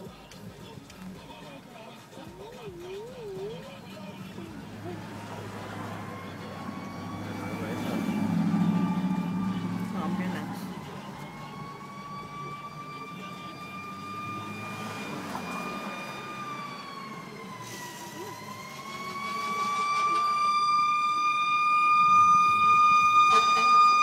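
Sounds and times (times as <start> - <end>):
emergency vehicle siren: 2.3 - 24.0.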